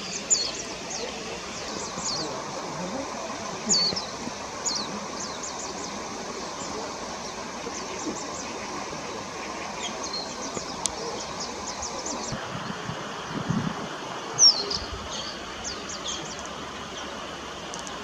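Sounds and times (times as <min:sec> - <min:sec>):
small songbirds chirping: 0:00.0 - 0:18.0
steady rushing background noise: 0:00.0 - 0:18.0.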